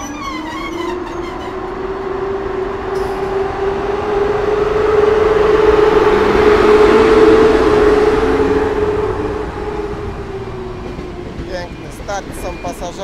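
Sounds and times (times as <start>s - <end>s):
electric locomotive whine: 0.0s - 13.0s
wheels on rail: 0.0s - 13.0s.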